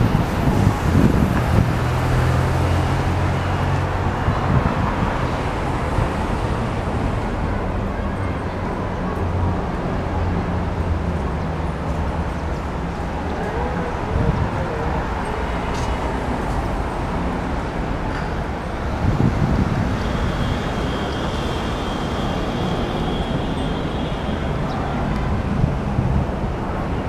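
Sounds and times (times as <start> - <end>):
city road traffic: 0.0 - 27.0.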